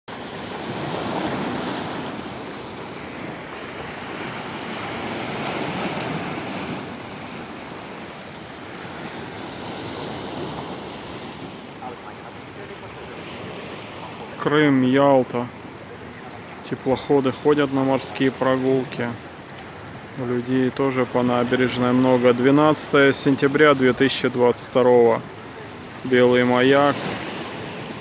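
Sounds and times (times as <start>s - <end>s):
sea waves washing on shore: 0.1s - 28.0s.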